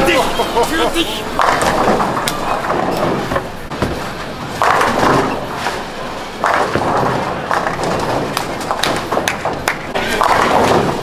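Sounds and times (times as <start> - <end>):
bowling balls and pins clattering: 1.3 - 11.0.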